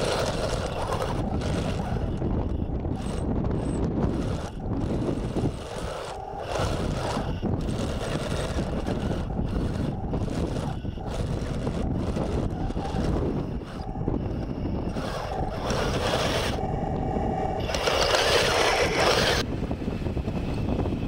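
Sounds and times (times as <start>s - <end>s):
toy tank motor and tracks grinding: 0.0s - 19.5s
wind buffeting microphone: 0.0s - 21.0s.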